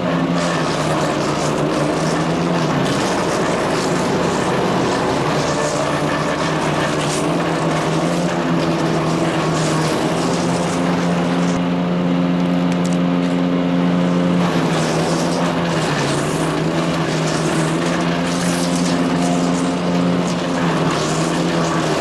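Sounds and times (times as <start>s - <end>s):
wood chipper engine running: 0.0s - 22.0s
hiss and rattle bursts: 0.3s - 11.6s, 13.9s - 22.0s.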